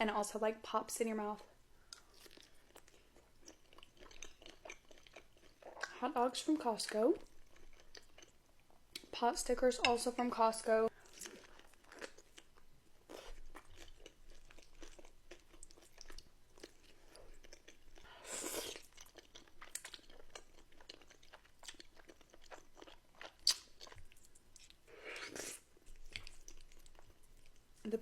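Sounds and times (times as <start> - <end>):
chewing and crunching: 1.8 - 6.0, 6.6 - 9.2, 10.9 - 27.7.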